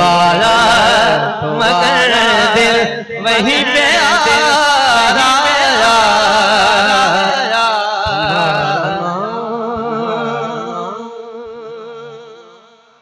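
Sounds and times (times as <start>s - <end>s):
man singing through sound system: 0.0s - 13.0s.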